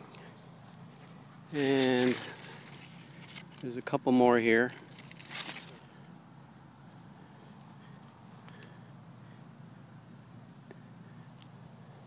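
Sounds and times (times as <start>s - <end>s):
insects high-pitched drone: 0.0s - 12.0s.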